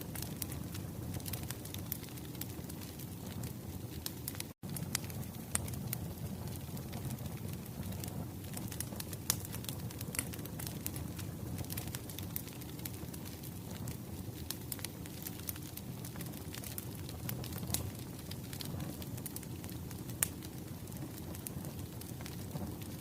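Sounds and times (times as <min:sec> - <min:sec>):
firewood crackling and popping: 0:00.0 - 0:23.0.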